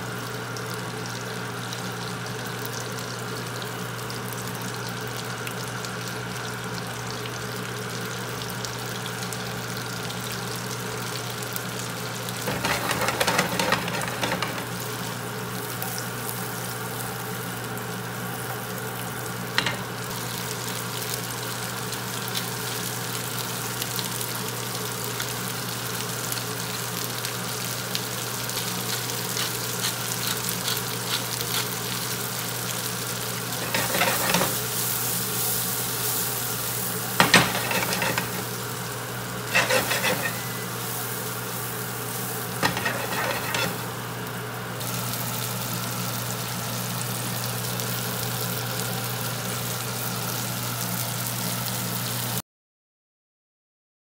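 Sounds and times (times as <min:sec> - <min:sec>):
peas sizzling in a frying pan: 0:00.0 - 0:52.4.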